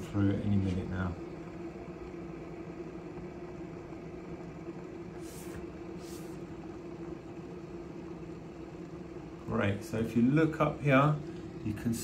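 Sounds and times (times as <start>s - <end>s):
steamer humming: 0.0s - 12.0s.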